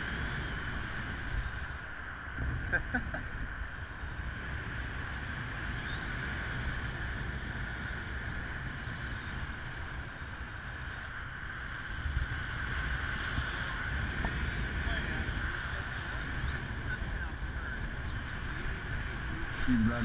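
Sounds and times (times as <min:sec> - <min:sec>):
wind buffeting camera: 0:00.0 - 0:20.0.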